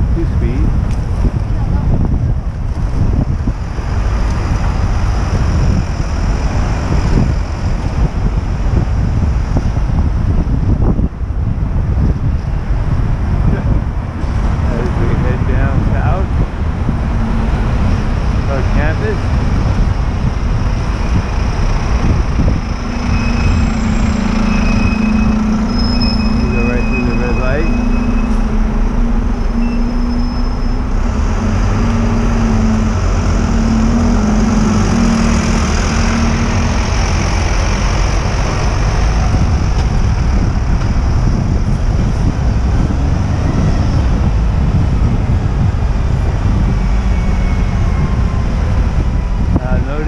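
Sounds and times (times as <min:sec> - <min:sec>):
bus hum with high whine: 0:00.0 - 0:50.0
road traffic: 0:00.0 - 0:50.0
wind buffeting microphone: 0:00.0 - 0:50.0.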